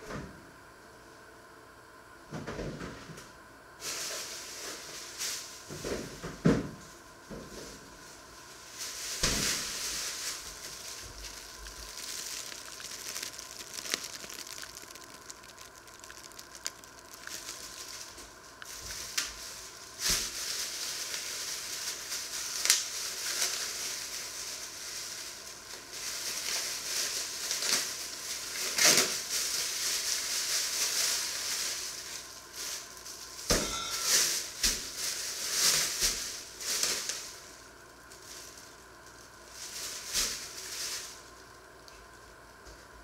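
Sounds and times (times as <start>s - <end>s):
plastic bags rustling and crinkling: 7.3s - 42.2s.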